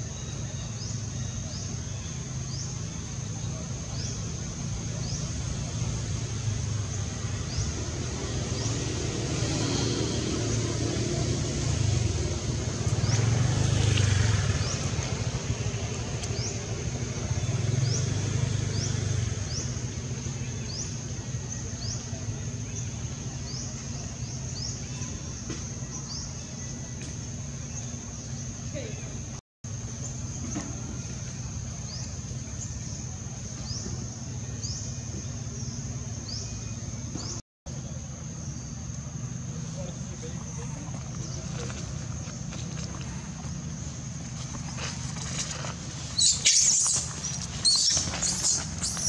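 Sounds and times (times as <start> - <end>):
low rumble of motor traffic: 0.0 - 49.0.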